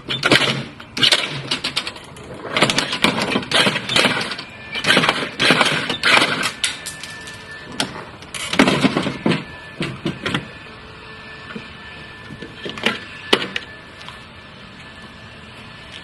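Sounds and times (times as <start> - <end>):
lawnmower running: 0.0 - 15.0.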